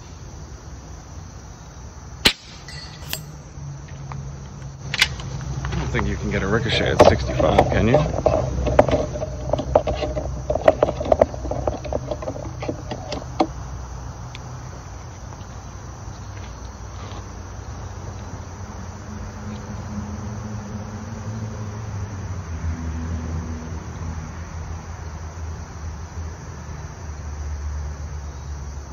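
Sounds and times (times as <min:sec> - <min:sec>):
low outdoor drone: 0:00.0 - 0:28.9.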